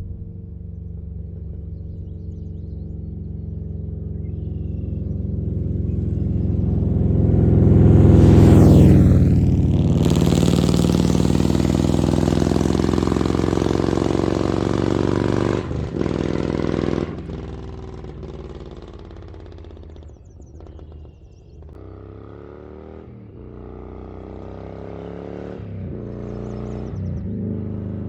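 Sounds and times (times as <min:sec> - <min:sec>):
motorcycle engine: 0:00.0 - 0:28.0.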